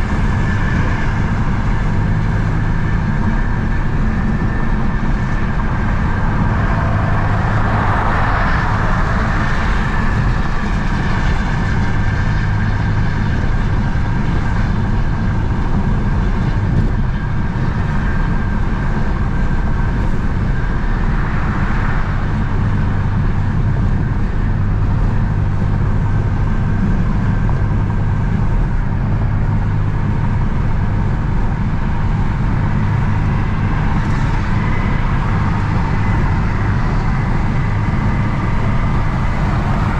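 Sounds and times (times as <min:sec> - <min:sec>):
car exhaust low hum: 0:00.0 - 0:39.9
road and tyre noise: 0:00.0 - 0:39.9.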